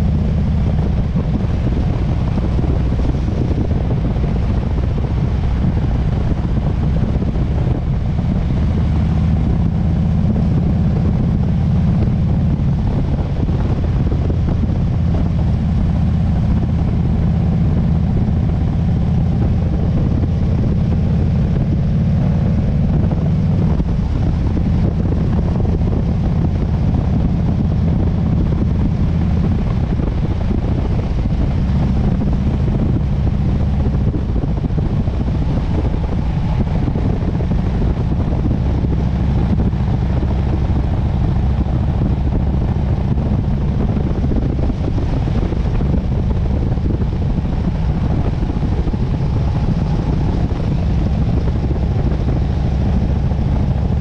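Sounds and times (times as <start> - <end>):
motorcycle engine cruising: 0.0 - 54.0
wind on microphone: 0.0 - 54.0.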